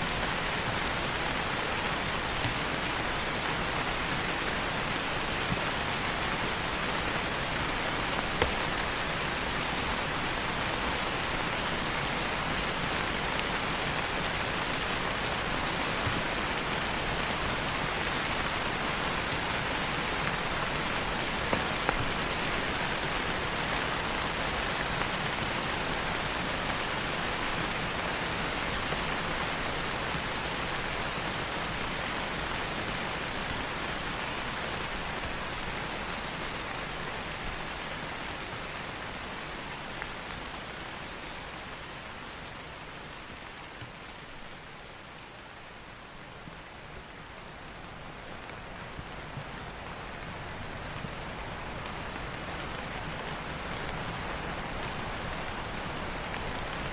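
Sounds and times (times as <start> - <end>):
louder raindrops: 0.0 - 56.9
steady rain falling: 0.0 - 56.9.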